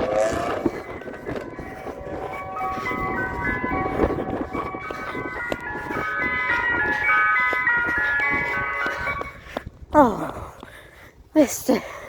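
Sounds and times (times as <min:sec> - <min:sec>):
ice cream van chime melody: 0:00.0 - 0:10.3.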